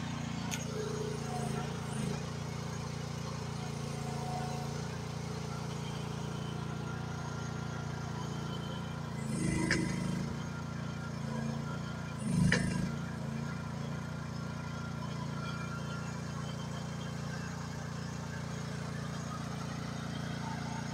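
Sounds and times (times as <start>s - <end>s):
small excavator engine running: 0.0s - 20.9s.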